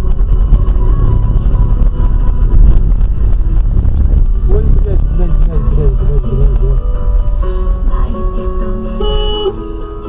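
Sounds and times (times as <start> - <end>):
car engine and road noise rumbling: 0.0 - 10.0.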